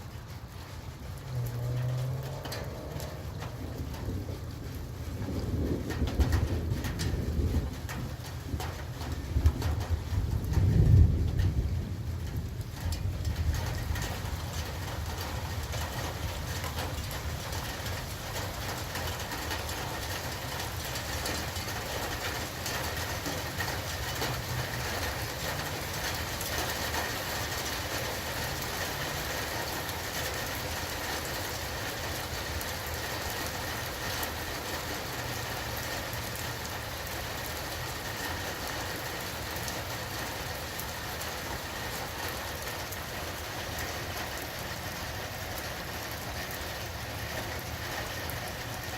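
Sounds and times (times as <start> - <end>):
steady rainfall: 0.0 - 48.9.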